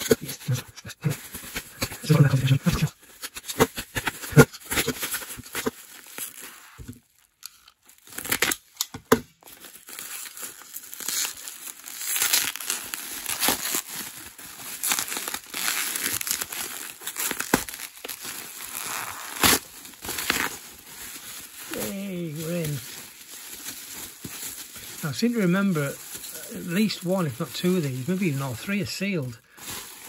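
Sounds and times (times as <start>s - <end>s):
bubble wrap crinkling: 0.0s - 30.0s
packing tape tearing: 1.3s - 28.4s.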